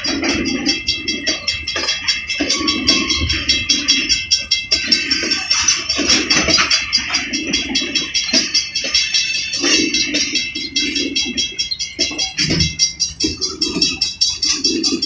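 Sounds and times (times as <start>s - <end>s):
crossing signal bells ringing: 0.0s - 15.0s.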